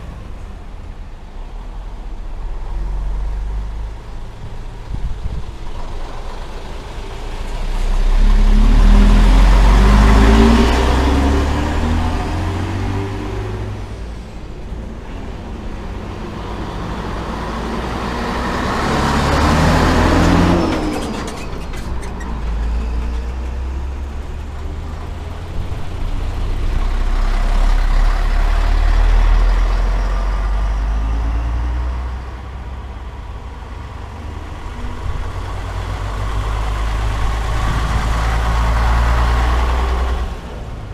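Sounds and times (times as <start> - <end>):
diesel trucks driving past: 0.0 - 40.9.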